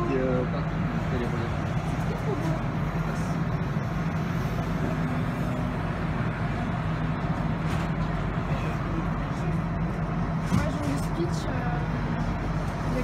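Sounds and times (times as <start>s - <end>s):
tram interior hum: 0.0s - 13.0s.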